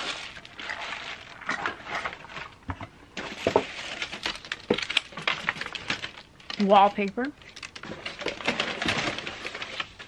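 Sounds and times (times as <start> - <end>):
plastic and paper wrapping rustling: 0.0 - 10.0.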